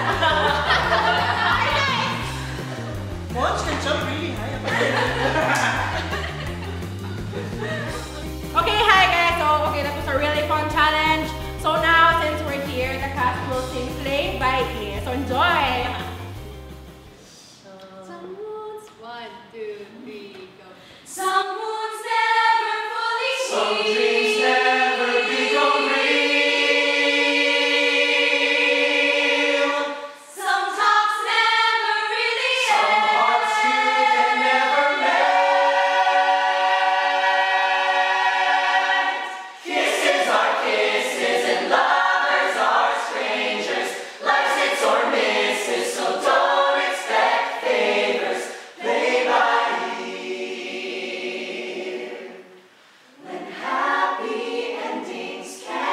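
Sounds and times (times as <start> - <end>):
mixed choir singing a cappella: 0.0 - 11.8, 21.0 - 55.9.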